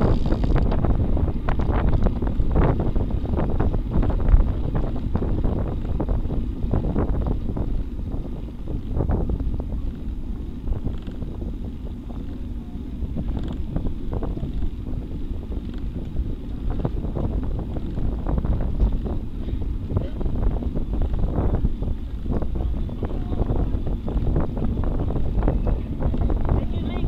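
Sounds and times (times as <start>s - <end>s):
low road rumble: 0.0s - 27.0s
wind buffeting the microphone: 0.0s - 27.0s.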